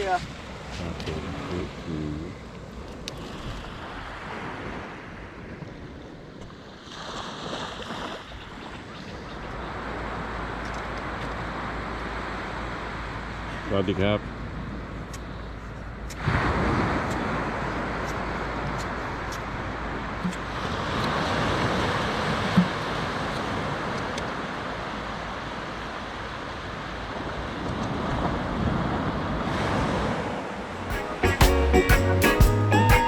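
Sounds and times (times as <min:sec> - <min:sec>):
sea waves breaking on beach: 0:00.0 - 0:31.2.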